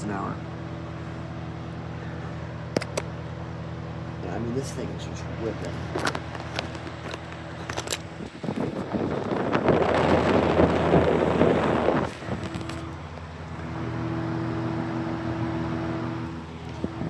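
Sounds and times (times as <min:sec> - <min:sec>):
fan airstream rushing over microphone: 0:00.0 - 0:17.0
fan motor hum: 0:00.0 - 0:17.0.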